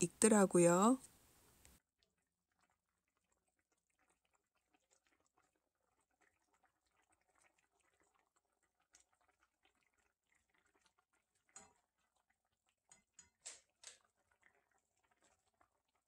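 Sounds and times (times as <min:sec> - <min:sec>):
stew bubbling and popping: 0:02.0 - 0:16.0.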